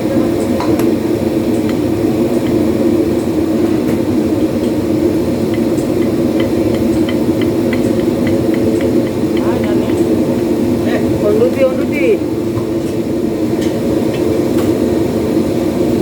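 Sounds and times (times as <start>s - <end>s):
loud machine hum: 0.0s - 16.0s.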